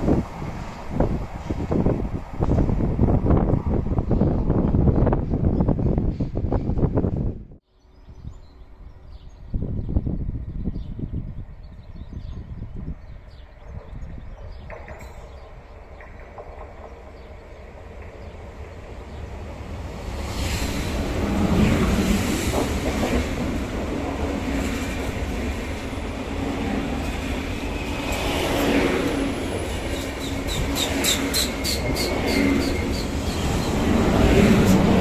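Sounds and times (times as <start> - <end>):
train wheels rumbling on rail: 0.0 - 7.6, 12.4 - 35.0
train low hum: 0.0 - 35.0.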